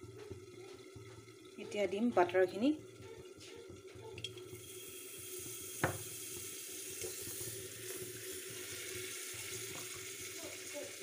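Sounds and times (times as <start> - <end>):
butter sizzling: 0.0 - 11.0.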